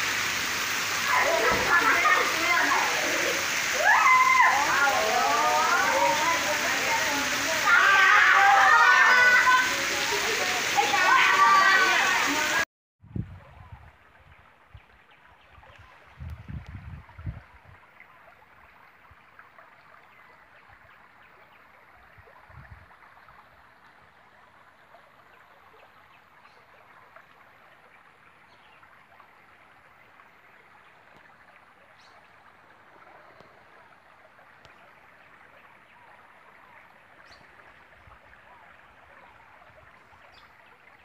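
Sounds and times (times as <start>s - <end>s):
water rushing: 0.0s - 12.7s, 13.6s - 41.0s.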